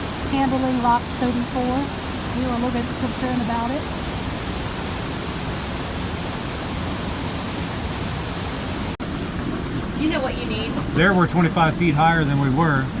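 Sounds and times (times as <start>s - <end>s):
water rushing: 0.0s - 13.0s.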